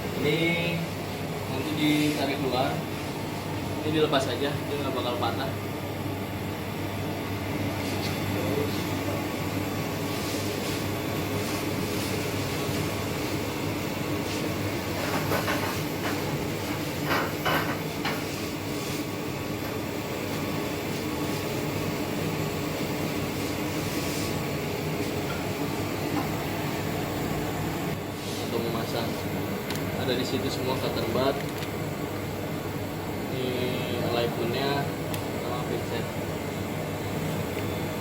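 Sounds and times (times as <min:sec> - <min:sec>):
lab equipment humming: 0:00.0 - 0:38.0.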